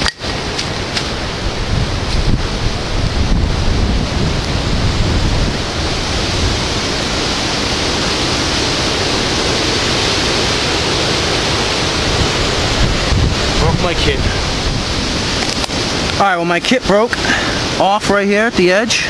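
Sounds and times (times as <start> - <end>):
wind buffeting microphone: 0.0 - 17.8
wind and heavy rain rushing: 0.0 - 19.0.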